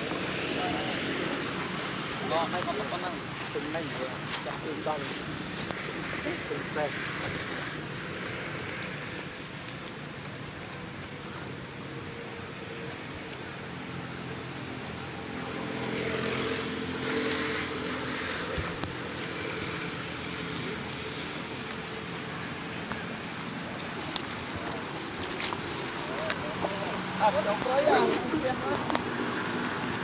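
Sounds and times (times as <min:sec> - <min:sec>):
steady background hiss: 0:00.0 - 0:30.0
vehicle engine hum: 0:00.0 - 0:30.0.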